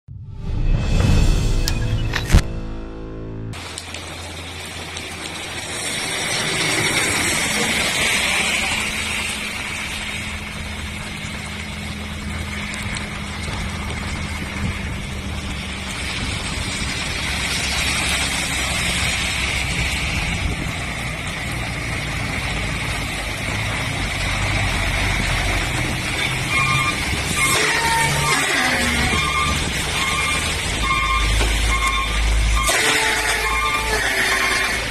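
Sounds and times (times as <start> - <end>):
heavy truck engine: 0.1 - 34.9
vehicle engines running: 3.5 - 34.9.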